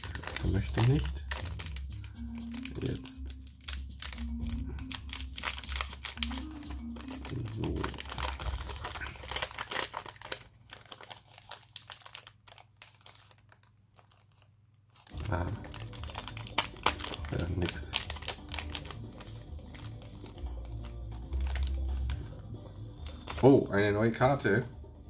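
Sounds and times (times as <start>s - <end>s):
foil packs crinkling and tearing: 0.0s - 23.6s.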